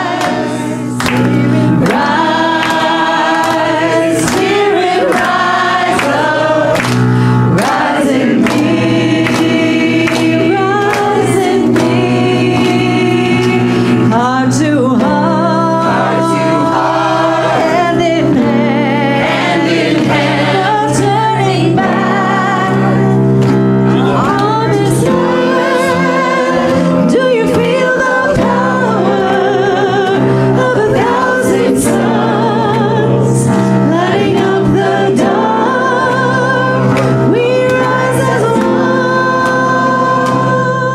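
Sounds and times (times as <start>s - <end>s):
choir singing gospel song: 0.0s - 40.9s
sustained keyboard chords: 0.0s - 40.9s.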